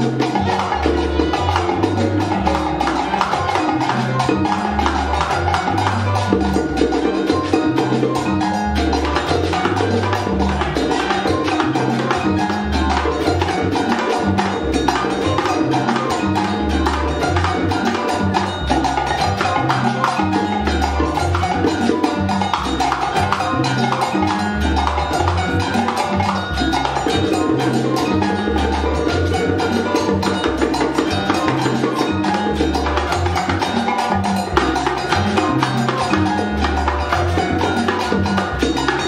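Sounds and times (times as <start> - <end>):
bass line: 0.0 - 39.0.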